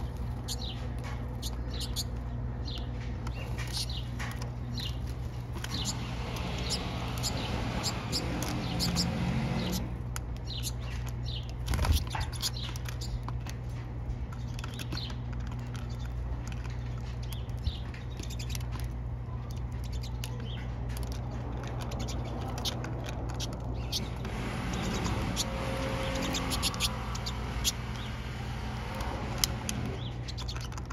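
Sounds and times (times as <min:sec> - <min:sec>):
birds chirping and twittering: 0:00.0 - 0:30.9
steady low hum: 0:00.0 - 0:30.9.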